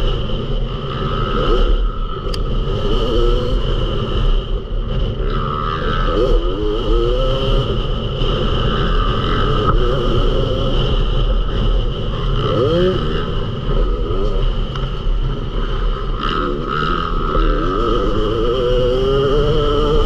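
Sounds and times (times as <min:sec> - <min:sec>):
motocross engine revving: 0:00.0 - 0:20.0.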